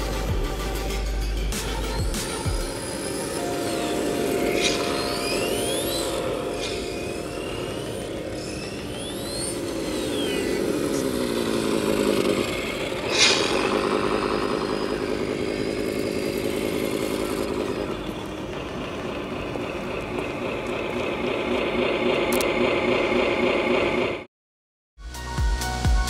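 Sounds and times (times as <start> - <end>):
simulated truck engine: 0.0 - 24.3
thin motor whine: 0.0 - 24.3.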